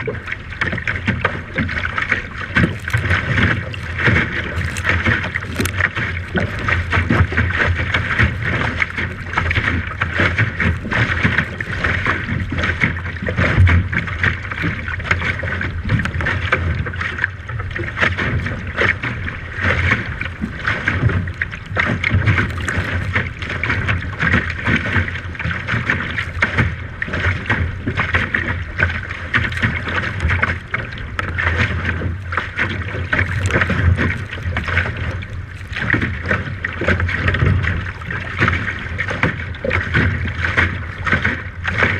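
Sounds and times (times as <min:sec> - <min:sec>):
water noise: 0:00.0 - 0:41.9.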